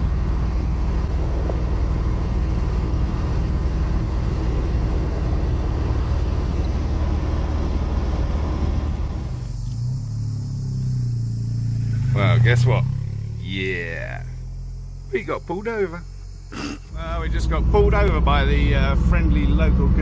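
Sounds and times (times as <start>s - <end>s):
car engine droning: 0.0s - 20.0s
road and wind noise: 0.0s - 20.0s.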